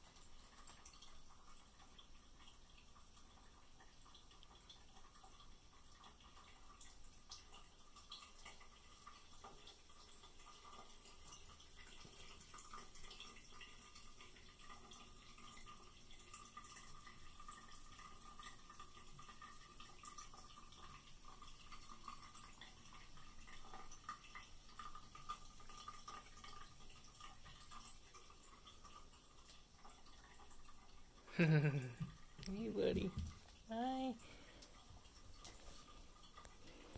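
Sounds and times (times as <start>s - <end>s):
cat lapping water: 0.0s - 36.9s
faucet water trickling: 0.0s - 36.9s.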